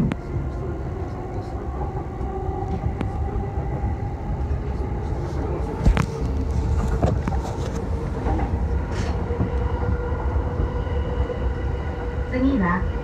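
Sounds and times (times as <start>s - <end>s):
train rumbling: 0.0s - 13.0s
train whine: 0.0s - 13.0s.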